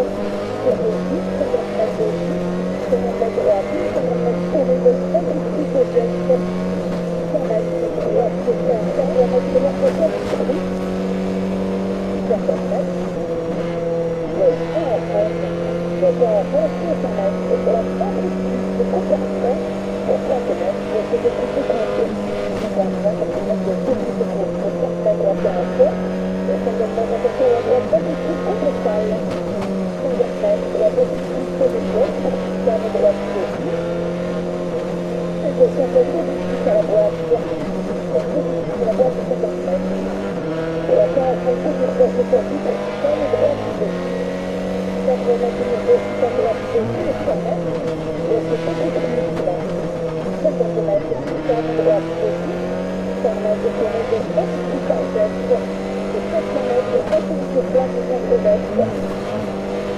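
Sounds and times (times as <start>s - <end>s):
car engine at full throttle: 0.0s - 59.9s.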